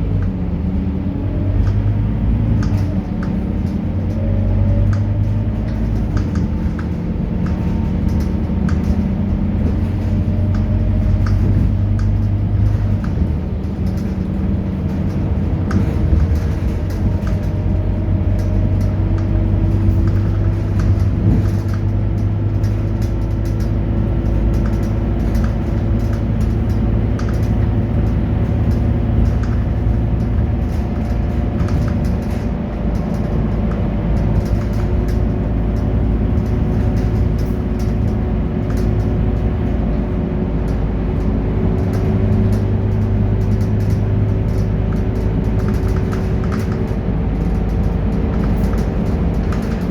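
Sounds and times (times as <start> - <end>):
bus diesel engine rumbling: 0.0 - 49.9.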